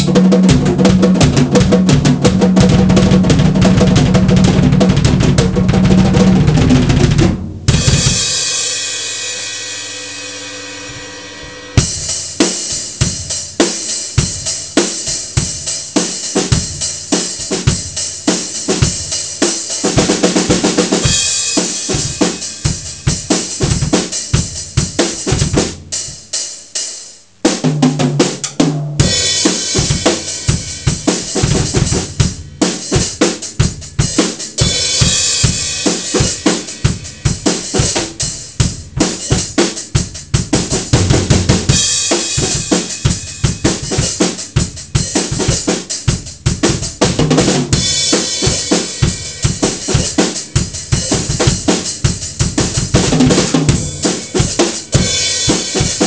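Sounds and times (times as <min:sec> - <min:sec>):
drum kit playing fast rhythm: 0:00.0 - 0:56.0.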